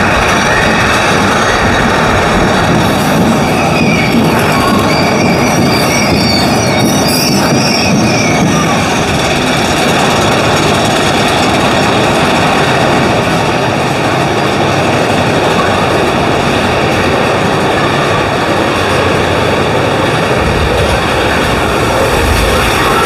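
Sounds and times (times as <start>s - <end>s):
roller coaster cars on track: 0.0s - 23.0s.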